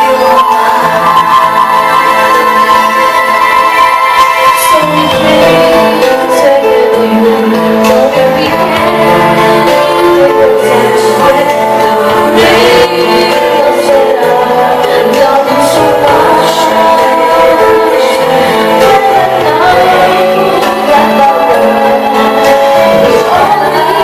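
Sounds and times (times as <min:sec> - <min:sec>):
instrumental accompaniment: 0:00.0 - 0:24.0
woman singing sustained notes: 0:00.0 - 0:24.0.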